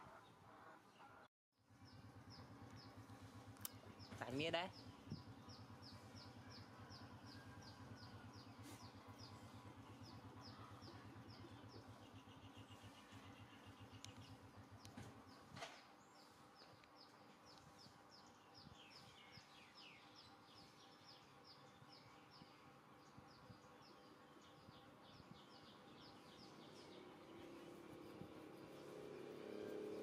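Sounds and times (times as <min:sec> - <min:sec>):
small bird chirping: 0:03.6 - 0:15.5, 0:16.2 - 0:30.0.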